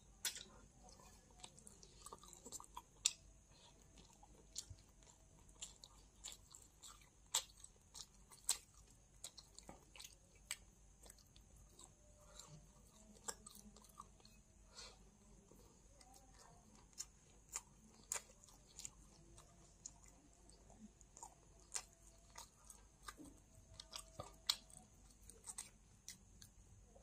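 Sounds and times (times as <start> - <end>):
person chewing: 0.2 - 27.0.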